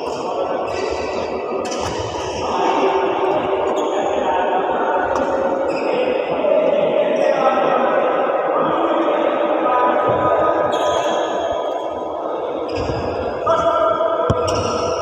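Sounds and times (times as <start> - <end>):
indoor hall background din: 0.0 - 15.0.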